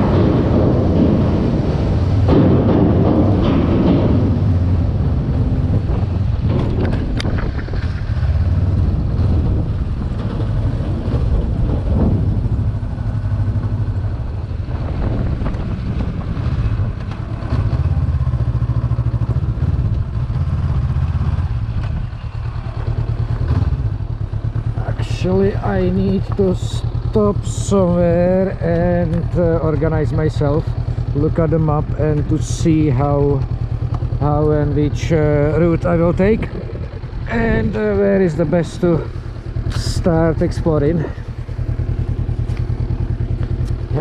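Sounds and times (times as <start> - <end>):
motorcycle engine at low revs: 0.0 - 44.0.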